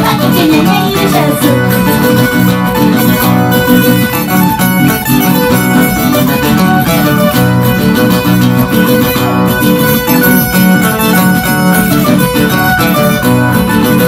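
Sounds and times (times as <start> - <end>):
folk music with steady beat: 0.0 - 14.0.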